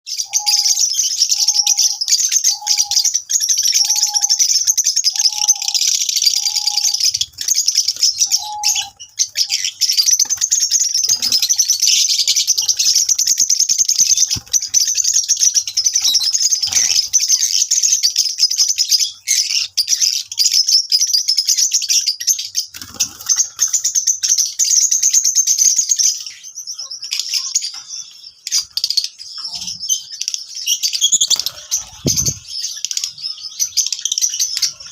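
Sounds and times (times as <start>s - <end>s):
parrots chattering and chirping: 0.1s - 34.9s.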